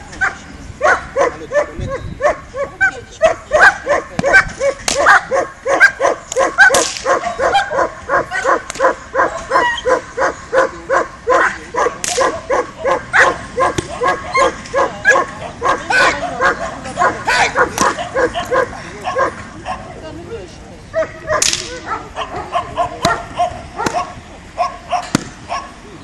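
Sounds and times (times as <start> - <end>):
dog barking rapidly: 0.2 - 19.9, 21.0 - 25.7.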